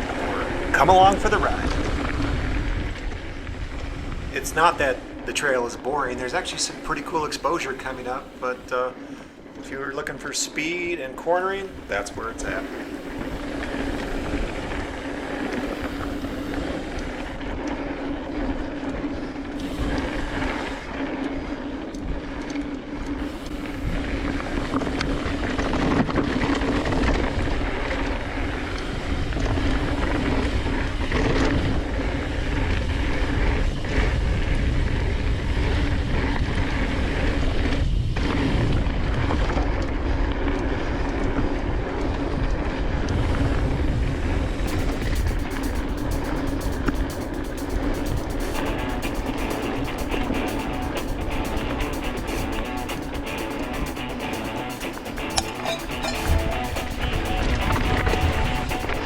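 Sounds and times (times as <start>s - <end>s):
bike rattling: 0.0s - 59.0s
wind buffeting microphone: 0.0s - 59.0s.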